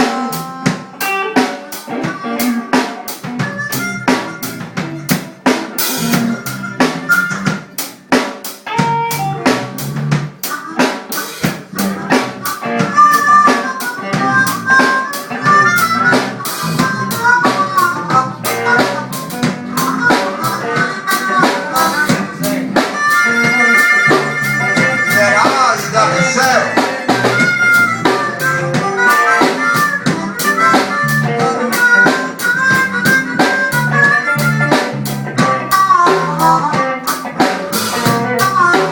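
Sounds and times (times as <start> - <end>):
bass line: 0.0 - 7.8, 8.8 - 10.4, 11.5 - 38.9
bending lead melody: 0.0 - 38.9
drum kit beat with rimshots: 0.0 - 38.9
live band playing: 0.0 - 38.9.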